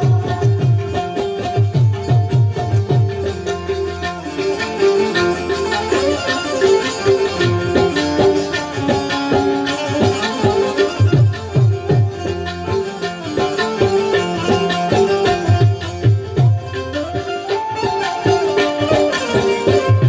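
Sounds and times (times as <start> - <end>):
hand drum strikes: 0.0 - 20.0
held melodic notes: 0.0 - 20.0.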